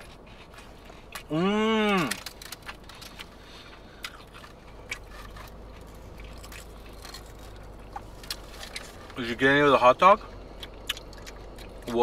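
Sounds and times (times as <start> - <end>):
chewing with soft crunches: 0.0 - 12.0.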